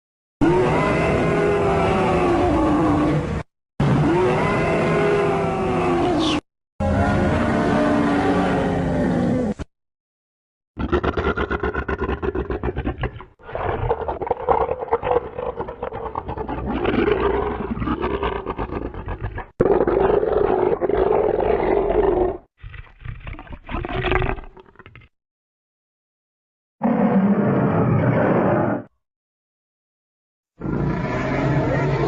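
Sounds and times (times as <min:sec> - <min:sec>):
monster growls and roars: 0:00.4 - 0:09.7, 0:10.8 - 0:24.6, 0:26.8 - 0:28.9, 0:30.6 - 0:32.0.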